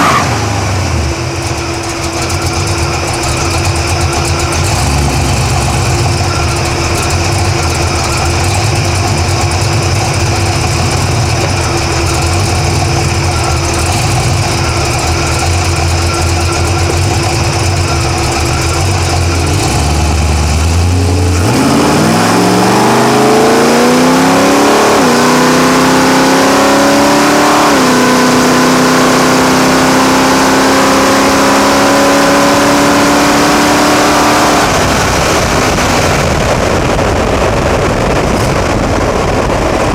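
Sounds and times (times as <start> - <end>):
car engine idling: 0.0 - 39.9
car engine revving hard: 0.0 - 39.9.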